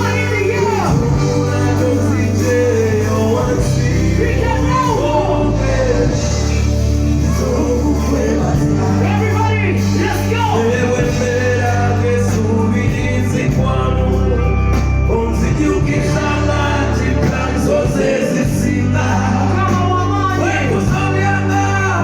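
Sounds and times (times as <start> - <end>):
band music with singing: 0.0 - 22.0.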